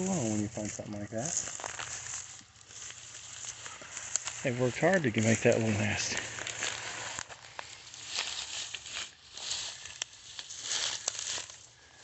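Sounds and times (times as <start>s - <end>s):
twigs snapping: 0.0s - 4.5s, 5.2s - 11.8s
footsteps through dry grass: 0.0s - 12.0s.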